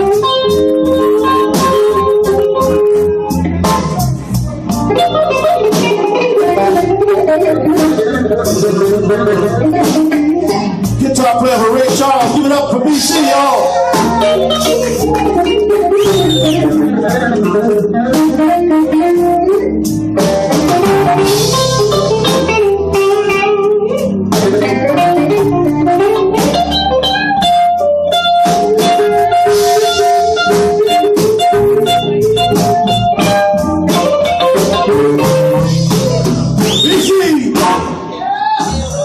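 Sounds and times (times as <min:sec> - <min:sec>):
drums: 0:00.0 - 0:39.0.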